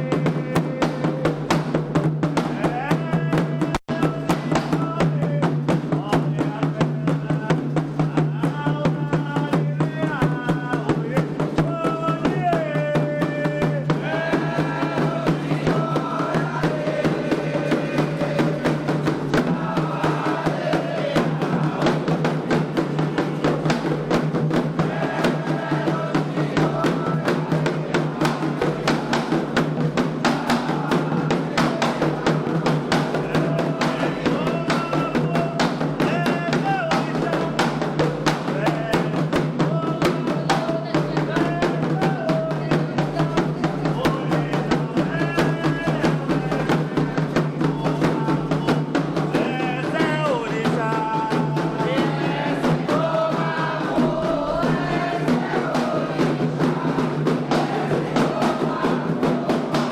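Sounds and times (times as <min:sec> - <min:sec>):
hand drums playing: 0:00.0 - 0:59.9
voices singing a chant: 0:00.0 - 0:59.9.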